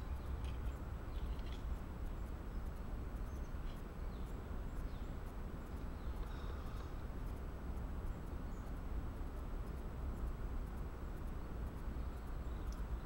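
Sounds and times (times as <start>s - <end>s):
low woodland rumble: 0.0s - 13.0s.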